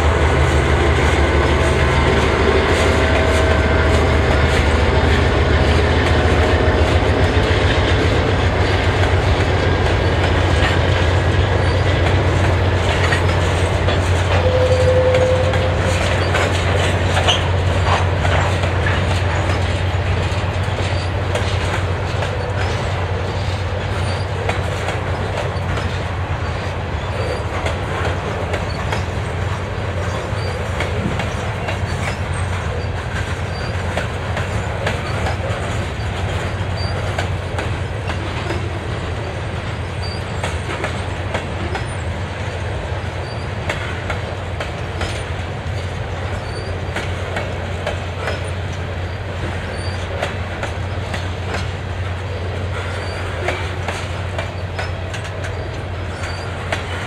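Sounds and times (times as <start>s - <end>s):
train wheels rumbling on rail: 0.0s - 57.0s
wheels clicking over rail joints: 0.0s - 57.0s.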